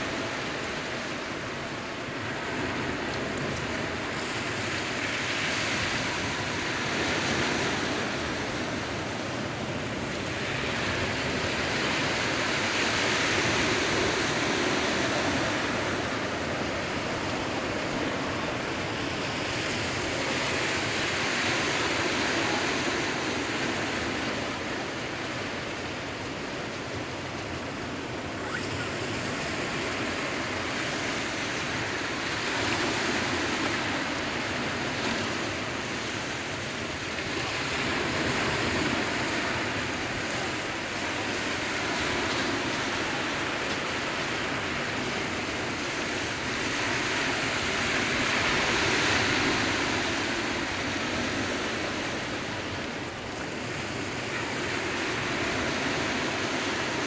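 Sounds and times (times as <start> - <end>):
sea waves surging and receding: 0.0 - 57.0.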